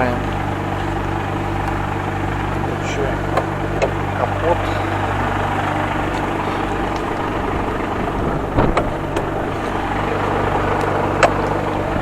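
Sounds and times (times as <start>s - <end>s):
diesel truck engine idling: 0.0s - 12.0s
sharp engine knocks: 0.0s - 12.0s.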